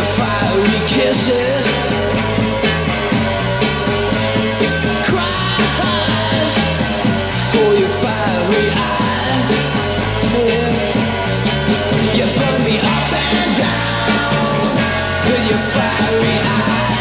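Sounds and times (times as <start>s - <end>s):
garage rock instrumental: 0.0s - 17.0s.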